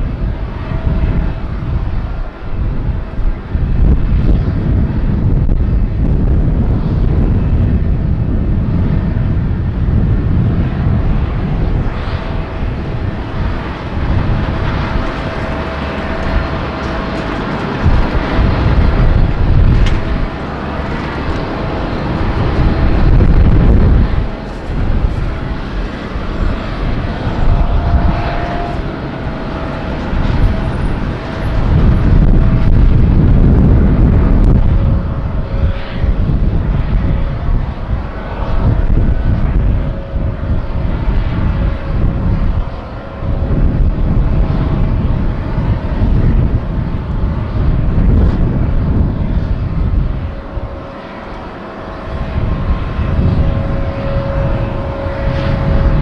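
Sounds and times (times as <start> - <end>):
faint steady whining tones: 0.0 - 56.0
jet airliner engine rumble: 0.0 - 56.0.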